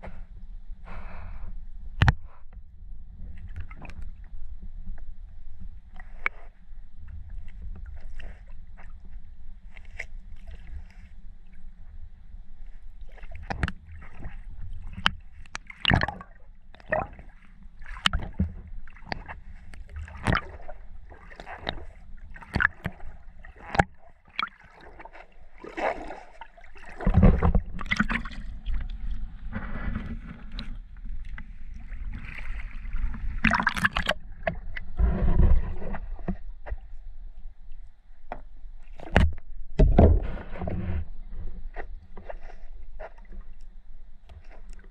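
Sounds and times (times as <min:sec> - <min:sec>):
shallow water sloshing and splashing: 0:03.1 - 0:44.9.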